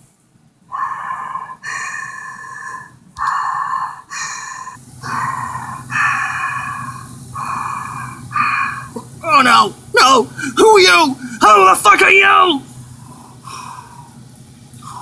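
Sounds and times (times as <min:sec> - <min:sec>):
person breathing heavily: 0:00.7 - 0:11.7, 0:12.7 - 0:15.0.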